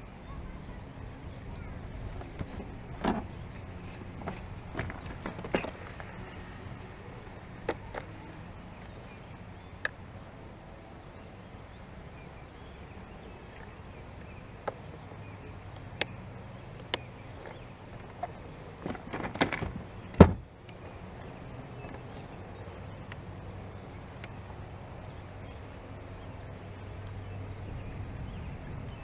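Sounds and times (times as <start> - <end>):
low background noise: 0.0 - 29.0.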